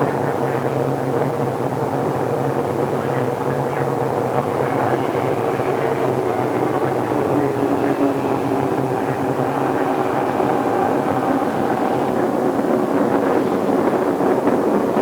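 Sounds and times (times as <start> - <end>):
wheel and rail noise: 0.0 - 15.0
electric train motor hum: 0.2 - 15.0.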